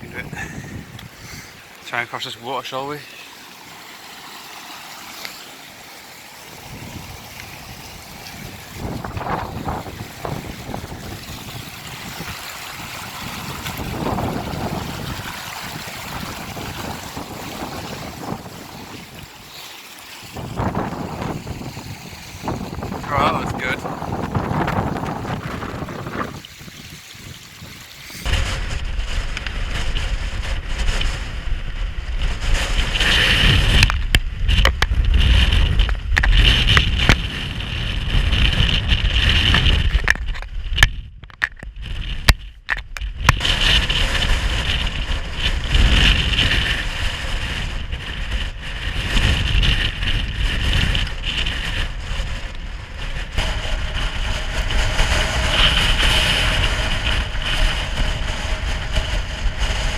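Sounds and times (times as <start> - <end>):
wind buffeting microphone: 0.0 - 1.8, 6.5 - 59.9.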